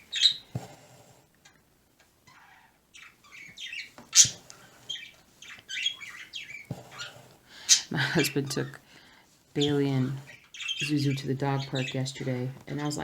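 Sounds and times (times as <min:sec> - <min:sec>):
birds chirping and chattering: 0:00.0 - 0:00.6, 0:02.2 - 0:08.8, 0:09.6 - 0:13.0.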